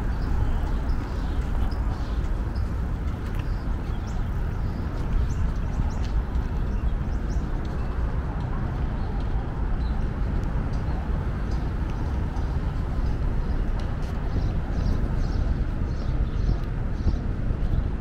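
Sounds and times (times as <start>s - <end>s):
birds chirping: 0.0s - 18.0s
traffic rumble: 0.0s - 18.0s.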